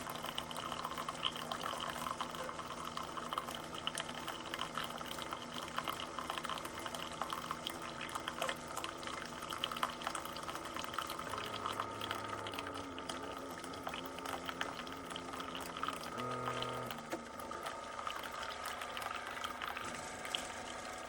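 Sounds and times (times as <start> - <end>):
coffee maker brewing: 0.0 - 21.0.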